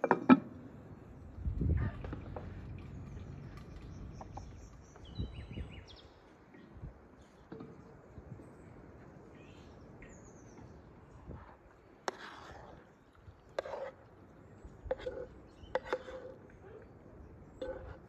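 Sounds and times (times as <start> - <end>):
faint birdsong: 0.0 - 18.0.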